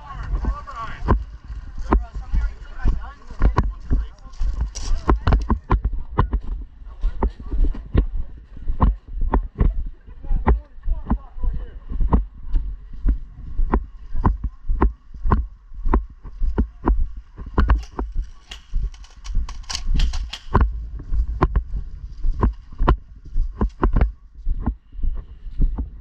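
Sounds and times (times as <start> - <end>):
footsteps with heavy thuds: 0.0 - 26.0.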